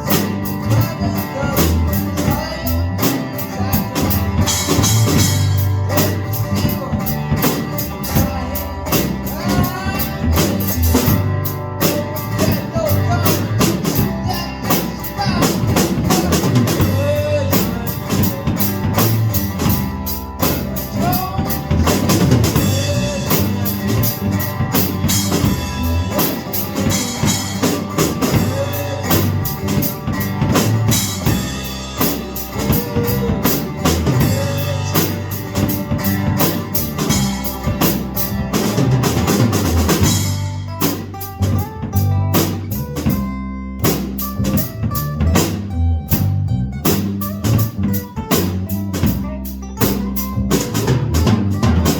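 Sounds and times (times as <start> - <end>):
bass notes: 0.0 - 51.9
drum kit: 0.0 - 51.9
guitar: 0.0 - 51.9.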